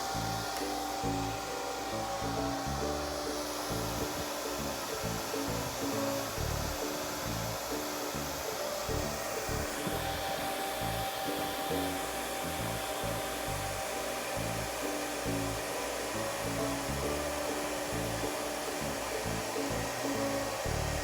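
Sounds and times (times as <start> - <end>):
background music: 0.0 - 21.0
hair dryer blowing: 0.0 - 21.0.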